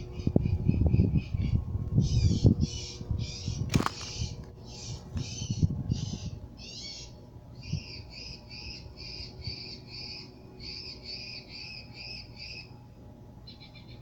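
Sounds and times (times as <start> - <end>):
steady low hum: 0.0 - 14.0
bird harsh call: 0.1 - 12.8.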